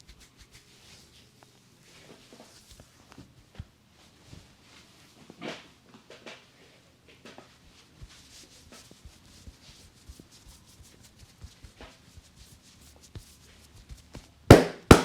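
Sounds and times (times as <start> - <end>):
hands rubbing scalp and hair: 0.0 - 5.2, 7.2 - 15.0.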